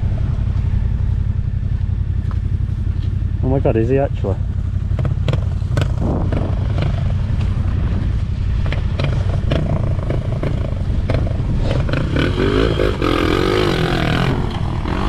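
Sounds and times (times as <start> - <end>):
motorcycle engine idling: 0.0 - 15.0
motorcycle engine revving: 0.0 - 15.0.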